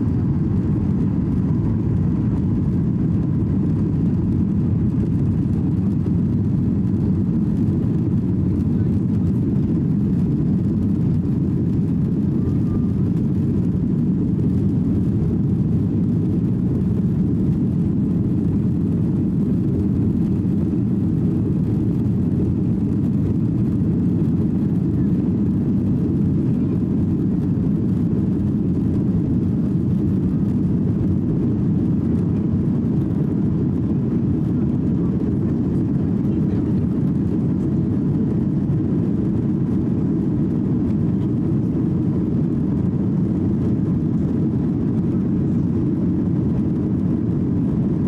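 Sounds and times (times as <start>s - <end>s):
airplane cabin roar: 0.0s - 48.0s
jet engines rumbling: 0.0s - 48.0s.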